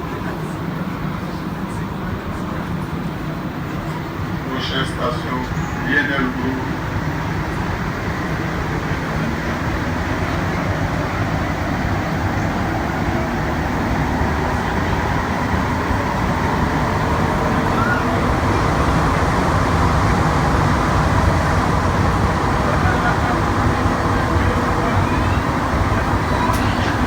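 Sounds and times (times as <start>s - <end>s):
metro train running: 0.0s - 27.0s.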